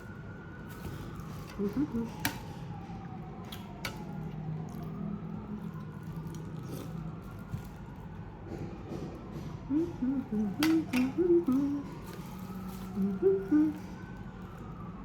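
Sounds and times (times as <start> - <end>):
distant siren wailing: 0.0 - 15.0.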